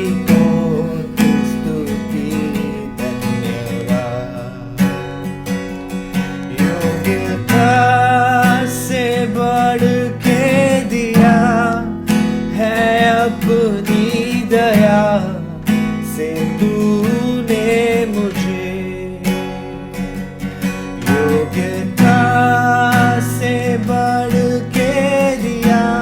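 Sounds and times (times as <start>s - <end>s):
man singing: 0.0s - 5.3s, 6.4s - 19.9s, 21.0s - 26.0s
strummed acoustic guitar: 0.0s - 26.0s.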